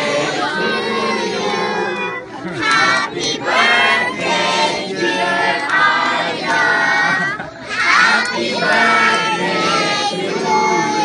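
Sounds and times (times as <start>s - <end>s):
group singing birthday song: 0.0s - 11.0s.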